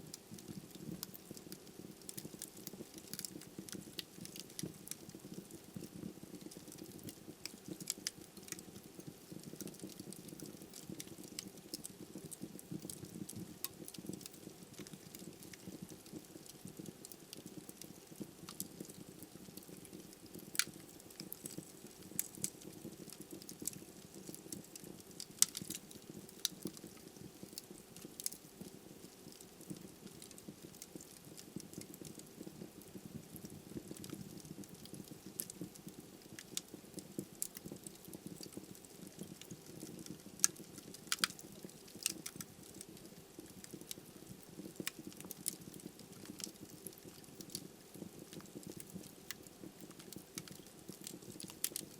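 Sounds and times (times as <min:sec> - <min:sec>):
logs crackling and popping: 0:00.0 - 0:51.9.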